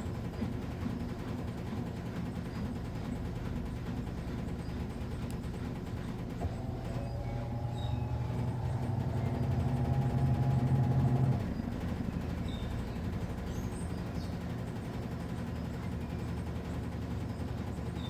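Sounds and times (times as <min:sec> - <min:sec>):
steady background hum: 0:00.0 - 0:18.0
washing machine motor humming: 0:00.0 - 0:18.0.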